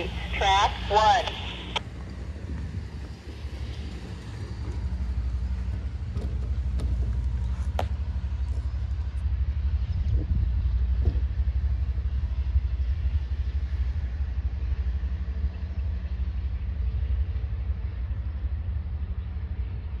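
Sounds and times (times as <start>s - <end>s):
passenger train rumbling: 0.0s - 20.0s.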